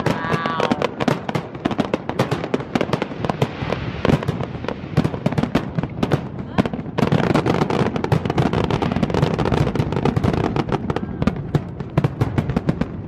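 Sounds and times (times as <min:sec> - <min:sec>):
fireworks crackling: 0:00.0 - 0:13.0
fireworks pops and bangs: 0:00.0 - 0:13.0.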